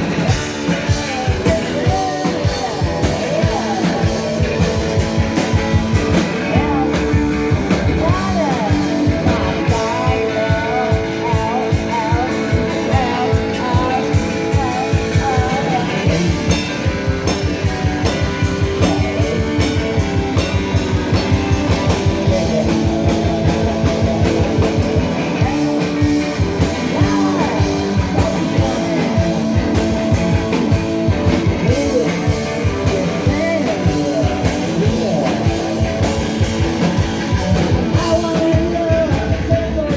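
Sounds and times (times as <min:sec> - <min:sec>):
drum kit beat: 0:00.0 - 0:39.9
electric guitars: 0:00.0 - 0:39.9
person singing: 0:00.0 - 0:39.9.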